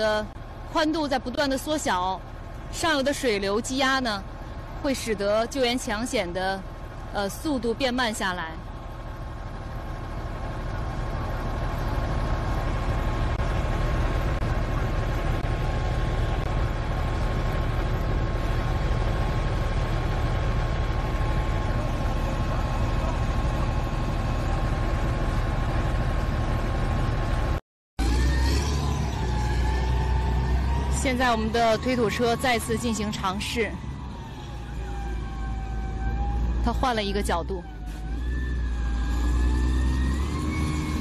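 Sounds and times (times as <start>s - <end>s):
heavy diesel engine rumbling: 0.0s - 41.0s.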